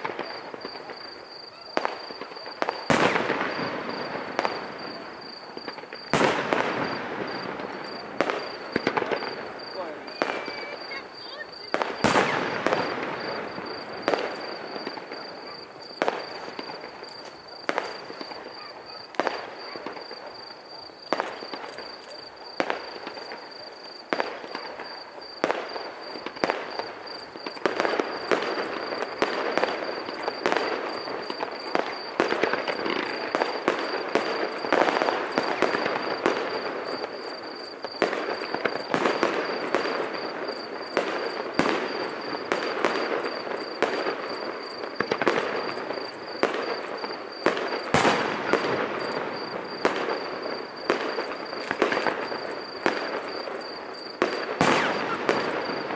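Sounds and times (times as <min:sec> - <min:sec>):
firework crackling: 0:00.0 - 0:55.9
firework shells bursting: 0:00.0 - 0:55.9.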